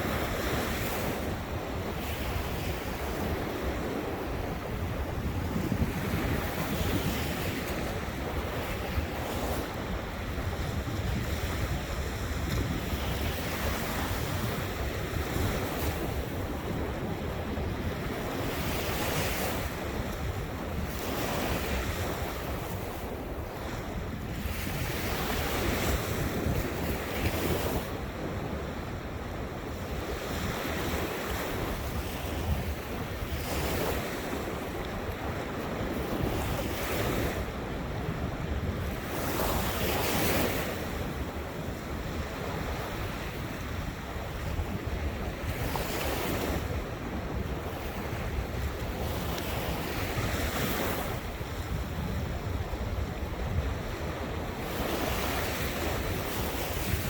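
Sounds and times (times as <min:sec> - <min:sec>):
ocean waves breaking: 0:00.0 - 0:57.0
wind rumble on microphone: 0:00.0 - 0:57.0.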